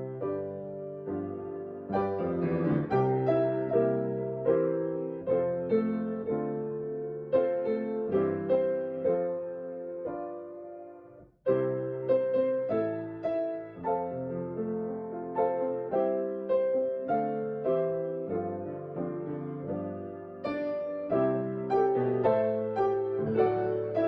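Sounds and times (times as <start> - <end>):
slow gentle piano piece: 0.0 - 24.0.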